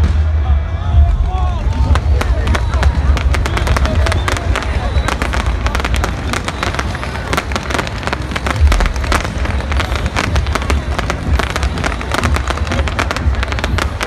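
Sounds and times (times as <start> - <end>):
heavy firework boom: 0.0 - 14.0
fireworks crackling and banging: 1.1 - 14.0.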